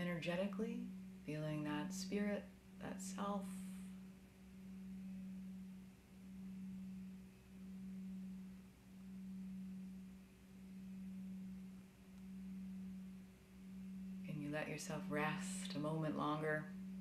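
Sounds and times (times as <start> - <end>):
low pure tone drone: 0.0 - 17.0.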